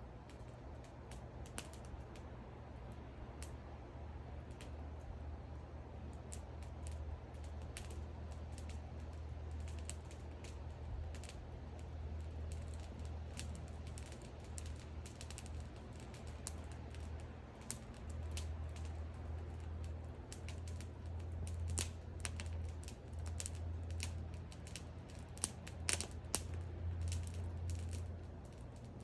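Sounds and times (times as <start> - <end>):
low fire rumble: 0.0 - 29.0
pops and snaps of burning wood: 0.2 - 3.6, 4.3 - 29.0.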